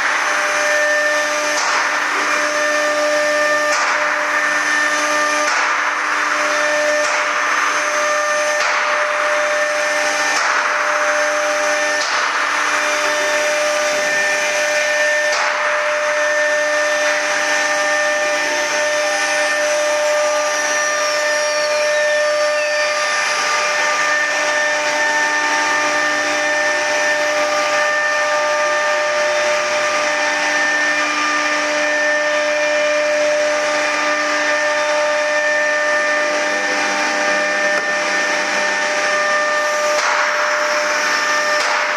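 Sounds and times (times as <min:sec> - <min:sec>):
axis motors moving: 0:00.0 - 0:41.6
spindle whine: 0:00.0 - 0:41.6.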